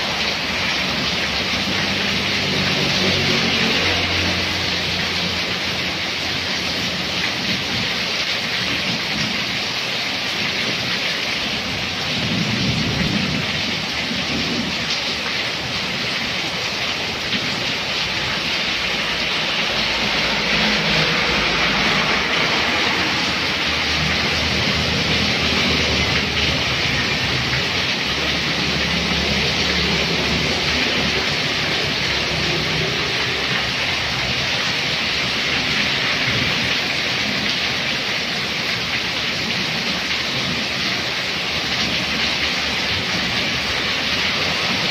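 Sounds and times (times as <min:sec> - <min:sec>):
heavy rain on road and awning: 0:00.0 - 0:44.9.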